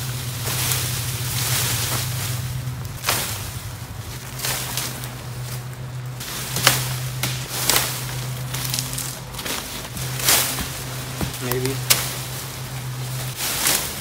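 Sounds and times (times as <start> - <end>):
branches rustling: 0.0 - 14.0
footsteps on dry leaves: 0.0 - 14.0.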